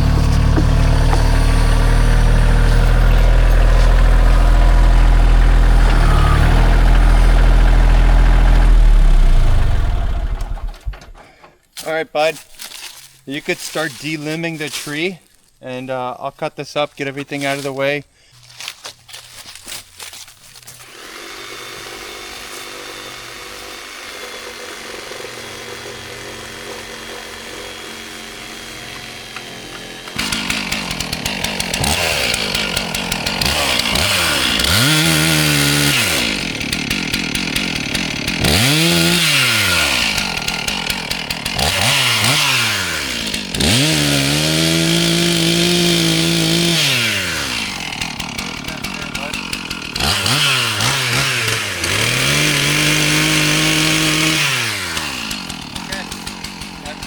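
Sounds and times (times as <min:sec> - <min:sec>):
chainsaw revving: 0:00.0 - 0:11.5, 0:20.6 - 0:57.0.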